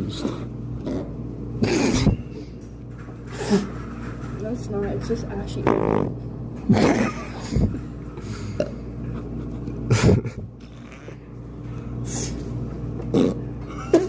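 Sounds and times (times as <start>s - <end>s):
electrical hum of machines: 0.0s - 14.0s.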